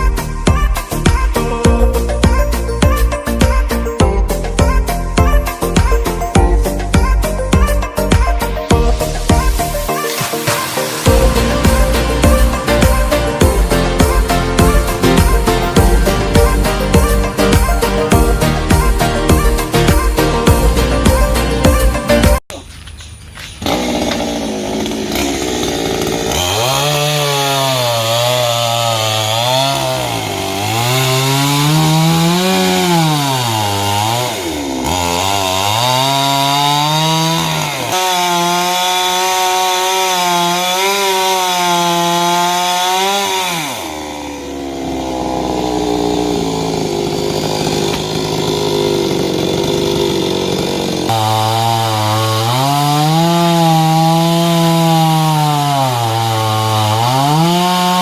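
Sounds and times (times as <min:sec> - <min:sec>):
chainsaw cutting through trunk: 0:00.0 - 0:22.4, 0:23.4 - 0:58.0.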